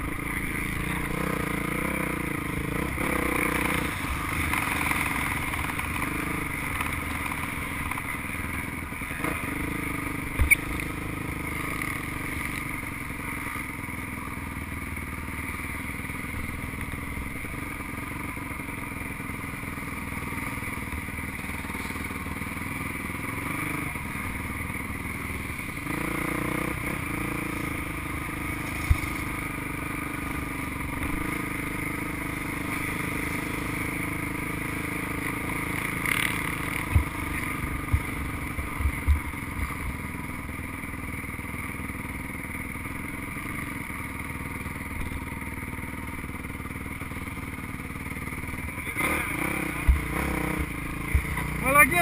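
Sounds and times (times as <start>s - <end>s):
motocross bike engine: 0.0s - 52.0s.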